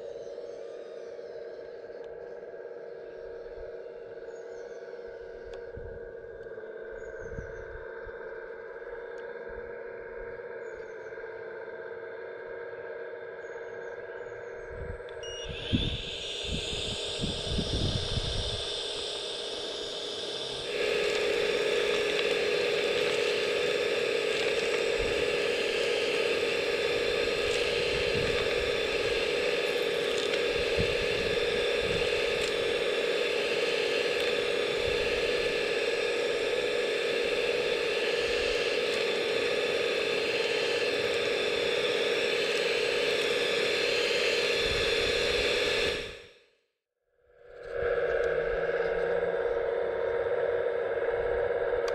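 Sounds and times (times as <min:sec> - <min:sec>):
whining suction fan: 0:00.0 - 0:46.4, 0:47.3 - 0:51.9.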